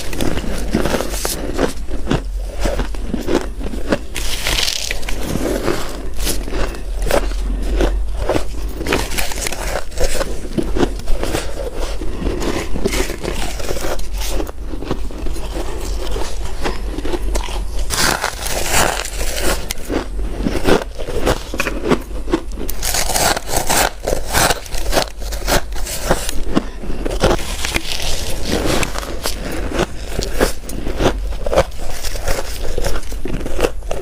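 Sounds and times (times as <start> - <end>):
chewing crunchy frost: 0.0 - 34.0.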